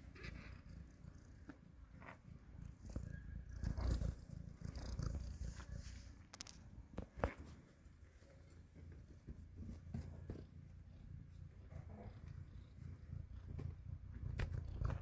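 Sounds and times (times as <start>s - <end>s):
cat purring: 0.0s - 6.4s, 8.3s - 15.0s.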